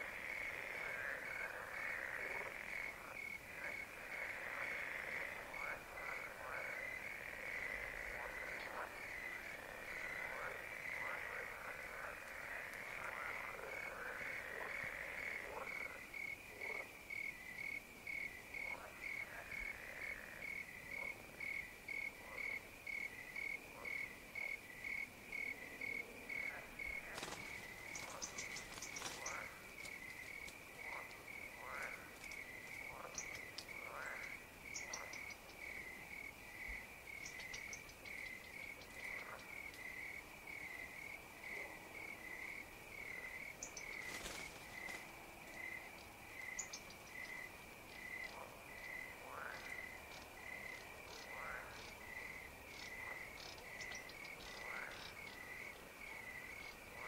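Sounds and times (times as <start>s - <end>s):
cricket chirping: 0.0s - 57.0s
frogs croaking: 0.0s - 57.0s.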